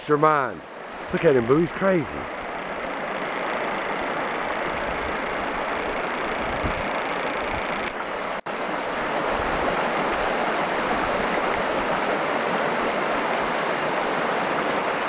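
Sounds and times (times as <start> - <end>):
stream flowing over rocks: 0.1 - 15.0.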